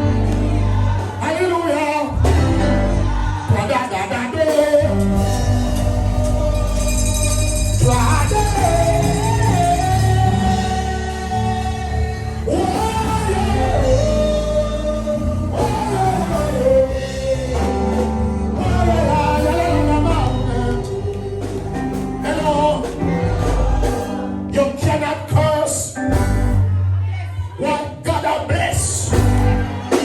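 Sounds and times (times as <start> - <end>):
person singing: 0.0 - 26.8
gospel band playing: 0.0 - 30.0.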